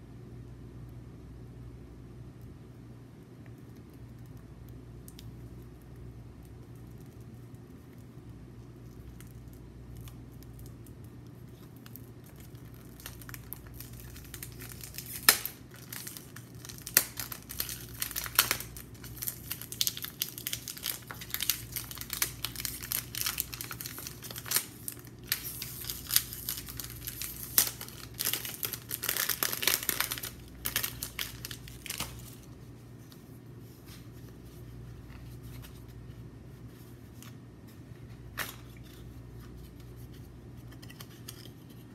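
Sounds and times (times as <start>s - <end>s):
faint low hum: 0.0s - 41.9s
paper packaging crinkling: 5.4s - 40.1s.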